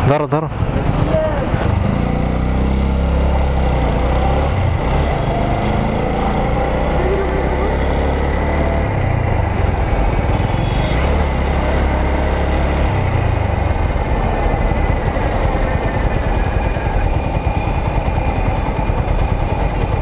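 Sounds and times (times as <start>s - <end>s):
motorcycle engine running: 0.5s - 20.0s.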